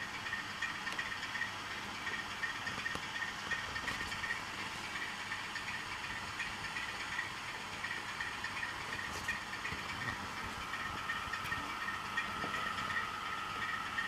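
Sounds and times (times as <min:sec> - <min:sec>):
diesel engine sound from speaker: 0:00.0 - 0:14.0
light rapid ticking: 0:00.0 - 0:14.0.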